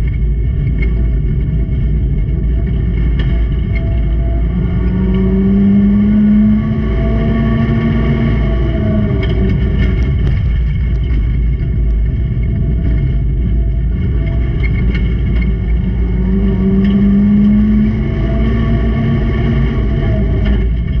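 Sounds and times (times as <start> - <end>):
racing car engine running hard: 0.0 - 21.0
sharp knocks and rattles: 0.0 - 21.0.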